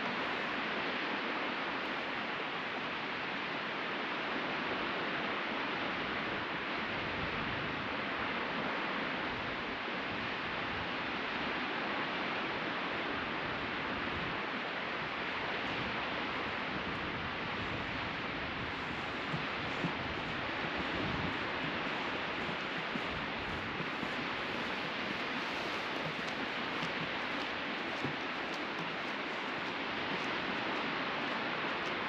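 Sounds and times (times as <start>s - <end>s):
sea surf washing onto beach: 0.0s - 32.0s.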